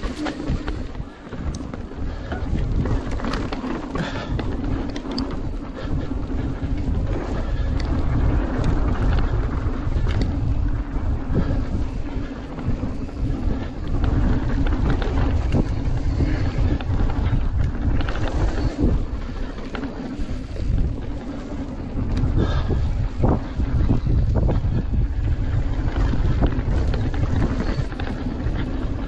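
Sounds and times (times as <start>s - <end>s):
bike clicks and rattles: 0.0s - 29.0s
tyres rumbling over dirt: 0.0s - 29.0s
wind buffeting microphone: 0.0s - 29.0s.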